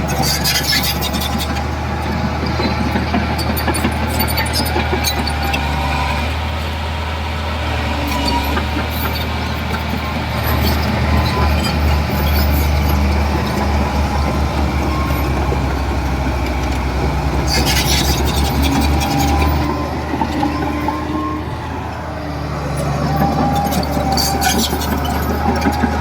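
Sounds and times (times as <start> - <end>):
heavy diesel machine engine: 0.0 - 26.0.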